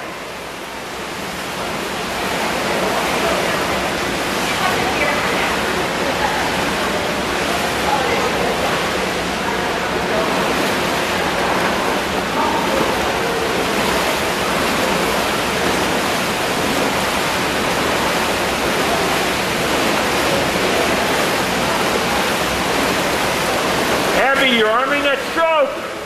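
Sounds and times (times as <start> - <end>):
water rushing and splashing: 0.0 - 26.0.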